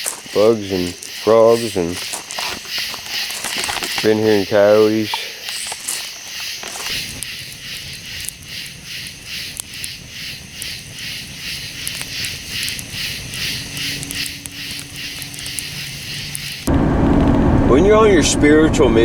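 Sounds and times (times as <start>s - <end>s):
sharp clicks: 0.0s - 17.4s
night insects chirping: 0.0s - 19.0s.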